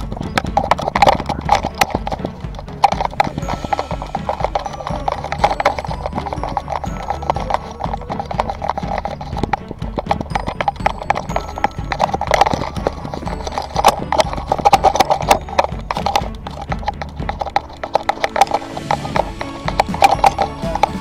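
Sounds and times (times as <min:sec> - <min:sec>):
camera knocks and rattles: 0:00.0 - 0:21.0
low rumble of handling noise: 0:00.0 - 0:21.0.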